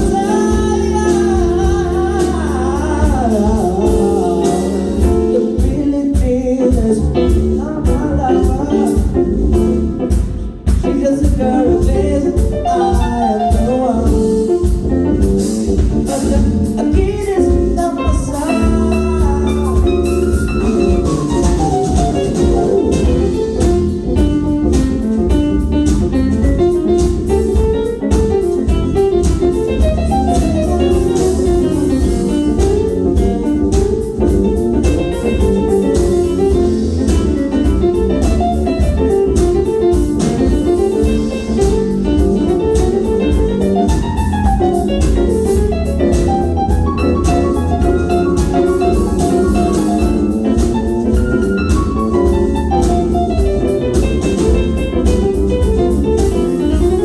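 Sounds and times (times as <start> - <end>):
drum kit steady beat: 0.0 - 57.0
jazzy melodic line: 0.0 - 57.0.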